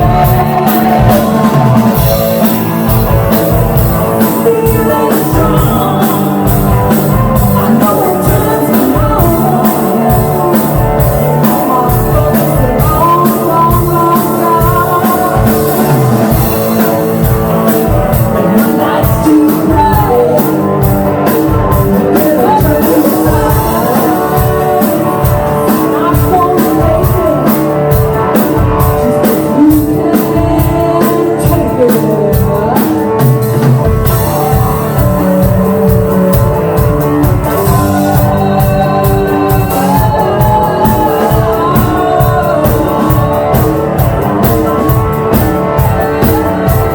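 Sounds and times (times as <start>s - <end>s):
person singing: 0.0s - 46.9s
rock band playing: 0.0s - 46.9s.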